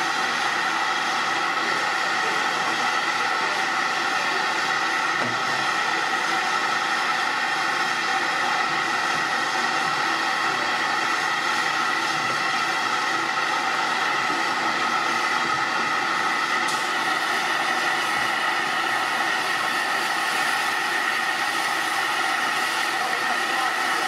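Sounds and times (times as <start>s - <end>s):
steam hissing from locomotive: 0.0s - 24.0s.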